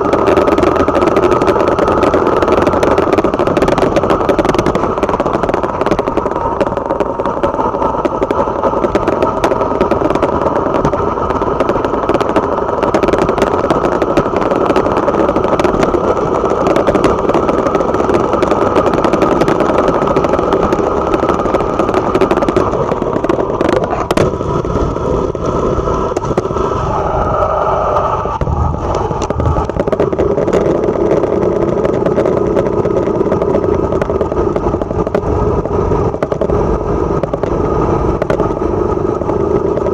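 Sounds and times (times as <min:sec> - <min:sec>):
motorcycle engine running: 0:00.0 - 0:27.3, 0:28.2 - 0:39.9.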